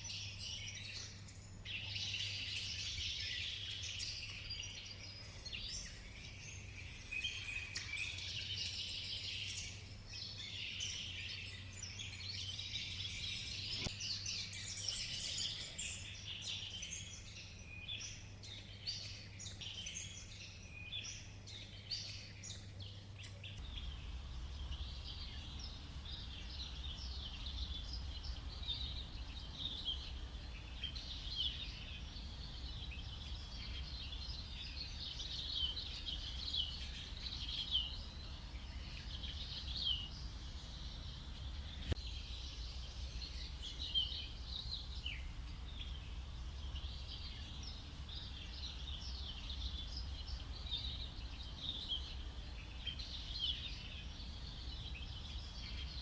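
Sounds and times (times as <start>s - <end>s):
birds chirping and calling: 0.0s - 56.0s
low steady rumble: 10.6s - 56.0s.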